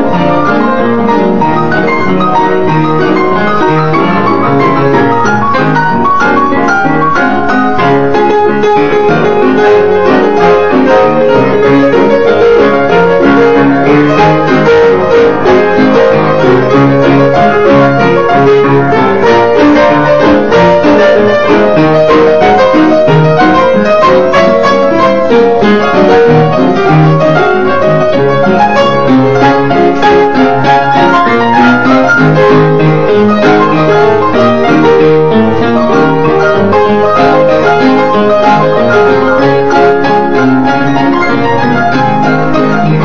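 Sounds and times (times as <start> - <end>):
pianos playing ragtime: 0.0 - 43.0.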